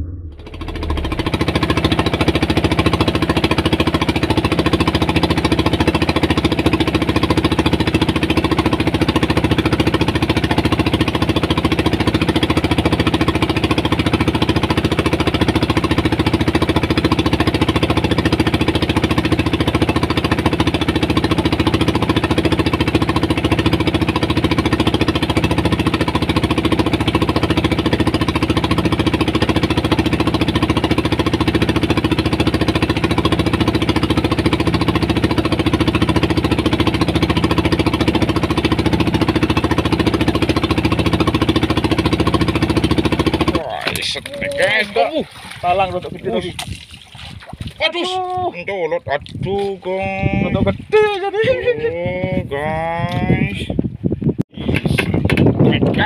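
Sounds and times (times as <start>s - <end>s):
boat engine pulsing drone: 0.0s - 53.6s.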